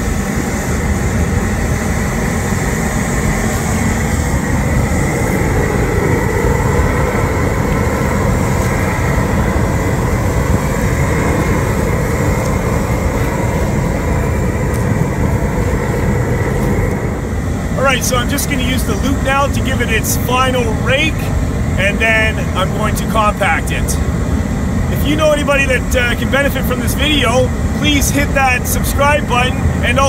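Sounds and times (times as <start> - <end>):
engine rumble: 0.0 - 30.0.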